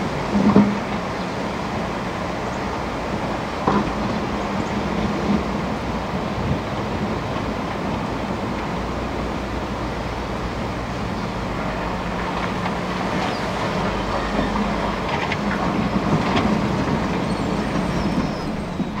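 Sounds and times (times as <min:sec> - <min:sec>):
excavator diesel engine humming: 0:00.0 - 0:19.0
river water rushing: 0:00.0 - 0:19.0.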